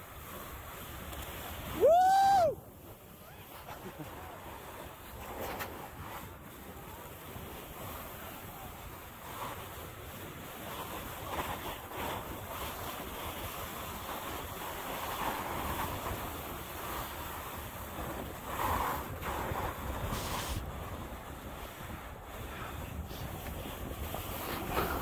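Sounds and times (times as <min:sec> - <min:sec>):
snowboard swishing over snow: 0:00.0 - 0:25.0
wind on microphone: 0:00.0 - 0:25.0.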